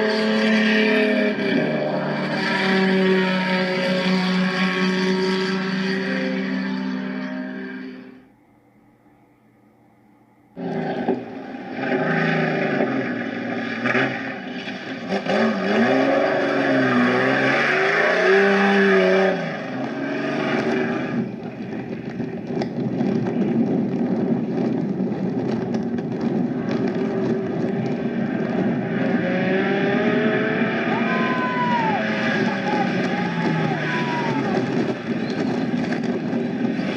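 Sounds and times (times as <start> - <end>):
engine revving: 0.0 - 8.2, 10.6 - 21.4, 22.1 - 36.9
race car engines running: 0.0 - 8.2, 10.6 - 36.9.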